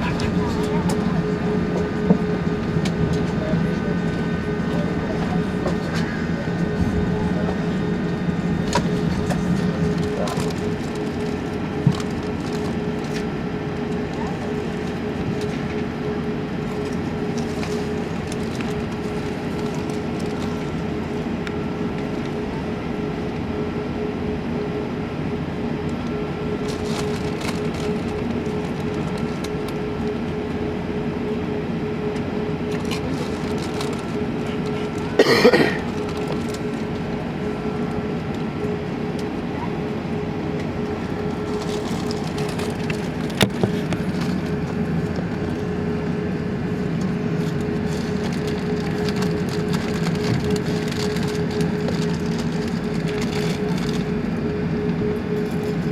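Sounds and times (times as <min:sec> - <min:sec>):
aircraft cabin hum: 0:00.0 - 0:55.9
faint engine whine: 0:00.0 - 0:55.9.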